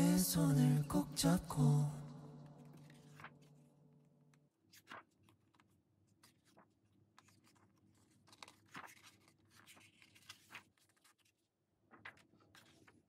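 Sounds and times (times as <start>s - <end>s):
paper pages being turned: 2.4s - 13.0s.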